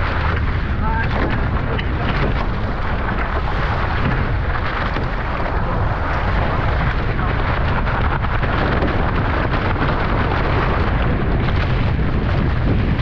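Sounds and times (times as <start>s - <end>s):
water rushing: 0.0s - 13.0s
wind buffeting microphone: 0.0s - 13.0s.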